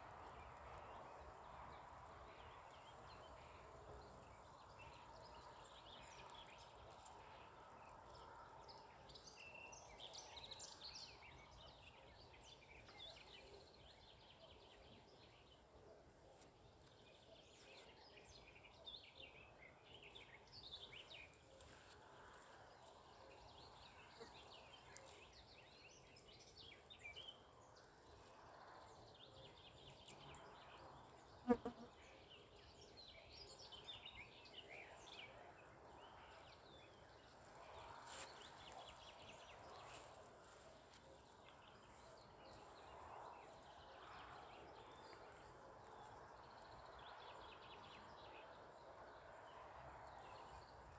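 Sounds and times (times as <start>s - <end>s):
faint songbirds chirping: 0.0s - 50.9s.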